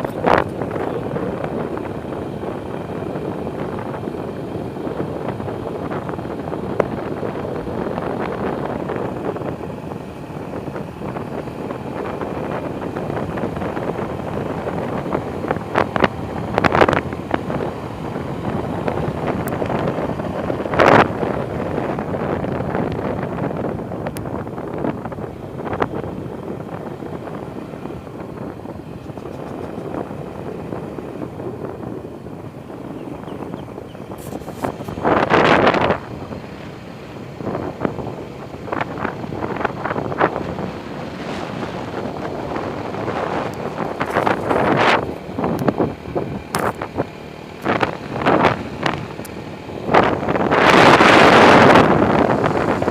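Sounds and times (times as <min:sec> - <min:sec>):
motorcycle engine: 0:00.0 - 0:52.9
road noise: 0:00.0 - 0:52.9
wind buffeting microphone: 0:00.0 - 0:52.9.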